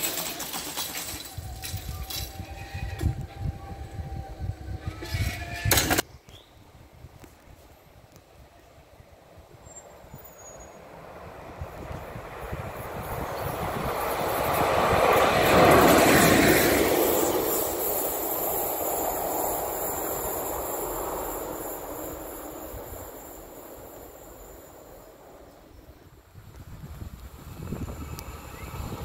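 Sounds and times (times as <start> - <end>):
electric locomotive passing: 0.0 - 6.0, 6.7 - 29.0
wheels running on rails: 0.0 - 6.0, 9.3 - 29.0.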